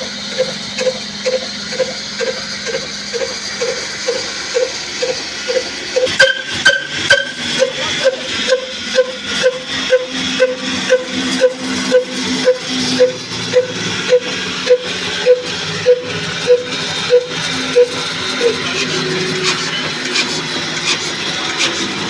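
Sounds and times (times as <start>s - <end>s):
diesel engine exhaust beat: 0.0s - 22.0s.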